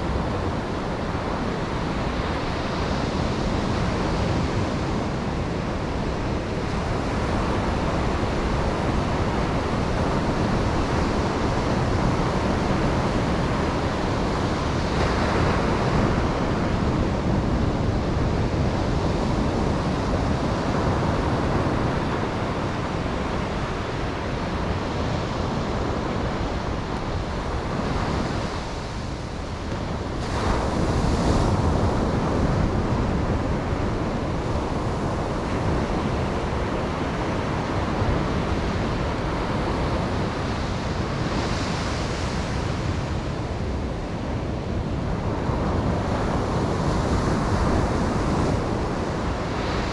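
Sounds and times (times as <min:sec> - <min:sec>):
ocean waves breaking on beach: 0:00.0 - 0:49.9
wind noise on microphone: 0:00.0 - 0:49.9.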